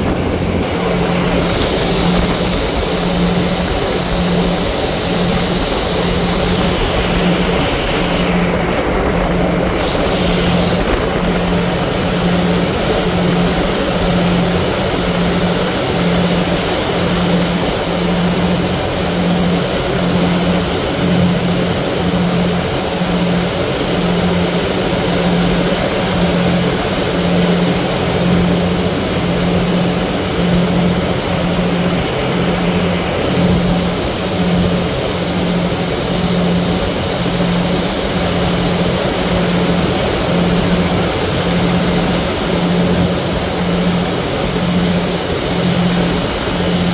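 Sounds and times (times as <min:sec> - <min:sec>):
ferry engine throbbing hum: 0:00.0 - 0:46.9
rush of wind and water: 0:00.0 - 0:46.9.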